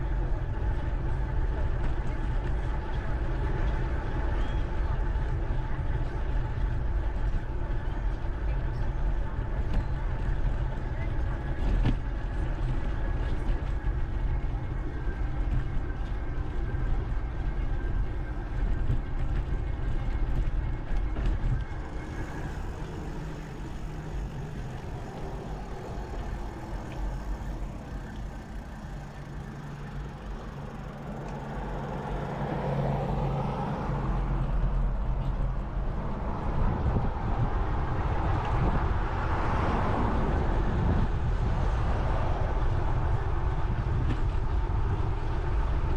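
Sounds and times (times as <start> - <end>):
trail noise: 0.0 - 45.9
wind rumbling on microphone: 0.0 - 45.9.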